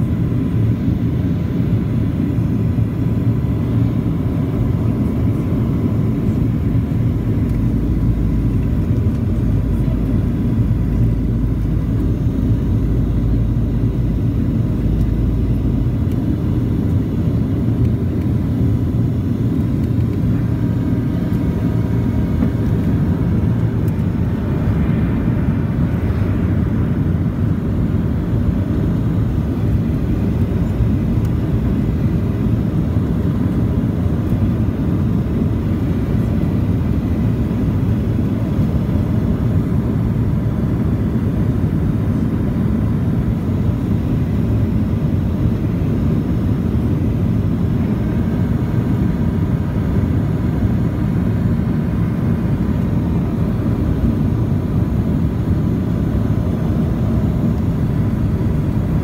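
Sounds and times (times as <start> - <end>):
faint steady whine: 0.0 - 59.0
jet engine rumble: 0.0 - 59.0.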